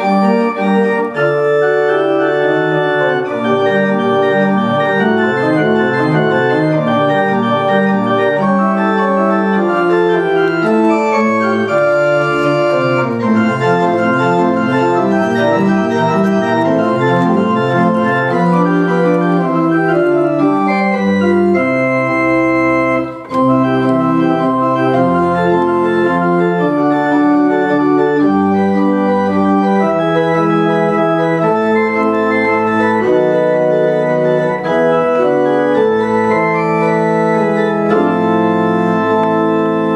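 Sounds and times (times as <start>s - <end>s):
deep organ pedal notes: 0.0s - 39.9s
pipe organ chords: 0.0s - 39.9s.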